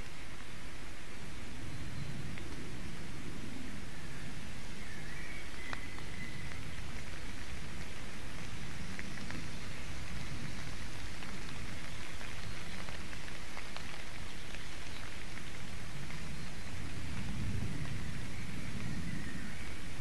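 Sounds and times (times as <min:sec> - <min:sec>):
low wind rumble on microphone: 0:00.0 - 0:20.0
wind hissing through trees: 0:00.0 - 0:20.0.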